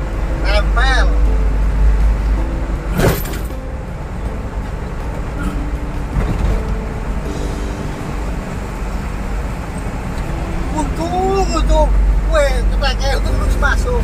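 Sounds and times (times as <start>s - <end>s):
engine and tyre rumble in car: 0.0s - 14.0s.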